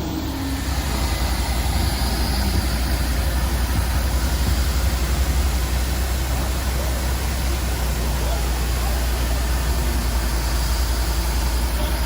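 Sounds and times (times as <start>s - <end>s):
heavy vehicle engine droning: 0.0s - 12.0s
road and wind noise: 0.0s - 12.0s.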